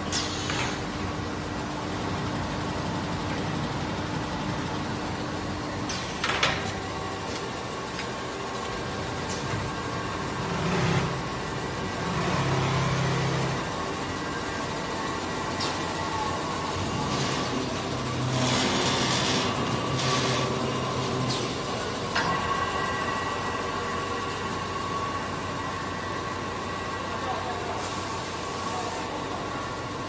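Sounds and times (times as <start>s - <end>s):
factory machinery running: 0.0s - 30.0s
steady machine hum: 0.0s - 30.0s.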